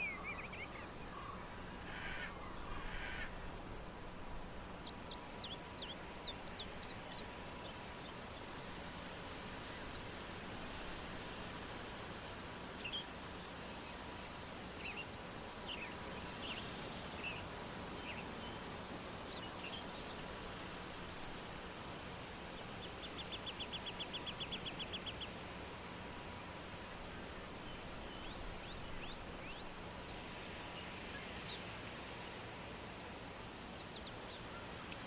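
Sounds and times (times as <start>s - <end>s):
steady outdoor hiss: 0.0s - 35.0s.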